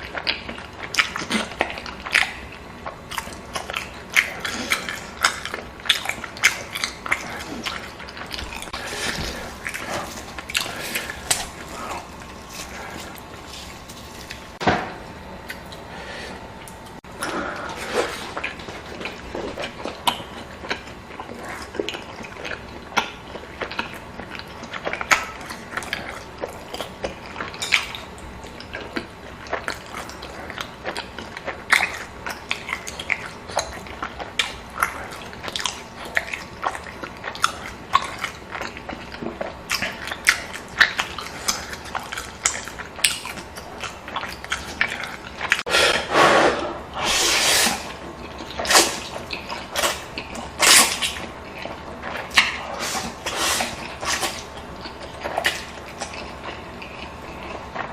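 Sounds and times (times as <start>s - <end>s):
chewing and biting food: 0.0s - 14.6s, 16.6s - 46.2s, 47.0s - 57.9s.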